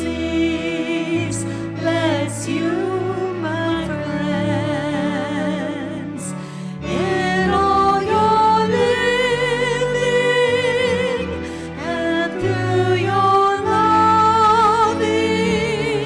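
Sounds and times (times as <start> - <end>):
person singing a hymn: 0.0 - 16.0
sustained low accompaniment: 0.0 - 16.0.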